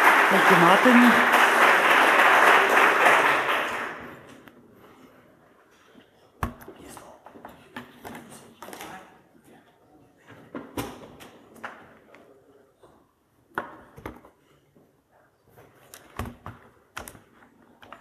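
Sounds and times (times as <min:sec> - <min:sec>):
faint room murmur: 0:01.2 - 0:18.0.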